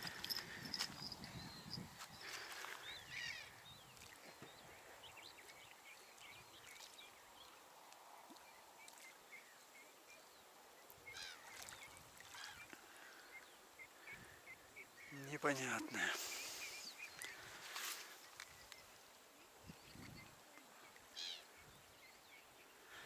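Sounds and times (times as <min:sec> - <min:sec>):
distant bird calls: 0:00.0 - 0:06.9, 0:11.0 - 0:23.0
open-air ambience: 0:00.0 - 0:23.0.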